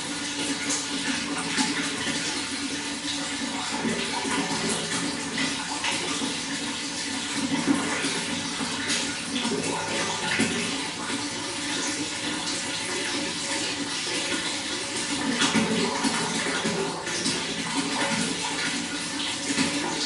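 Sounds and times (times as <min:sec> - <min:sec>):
water flowing and gurgling: 0:00.0 - 0:20.0.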